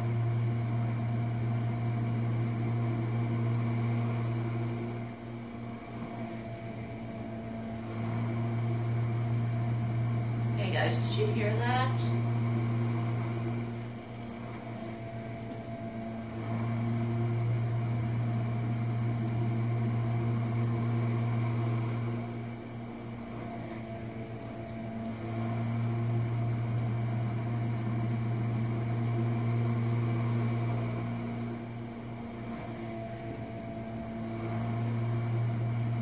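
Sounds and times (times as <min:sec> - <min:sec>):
dishwasher motor hum: 0:00.0 - 0:36.0.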